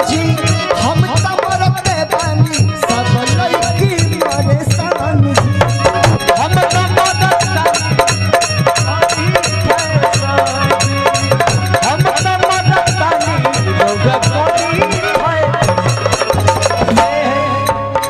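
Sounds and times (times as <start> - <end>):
stage-show music with hand drum: 0.0 - 18.0.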